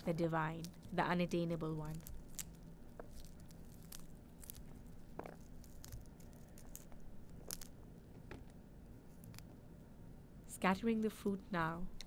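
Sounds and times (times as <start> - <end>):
pomegranate seeds crackling: 0.0 - 9.7.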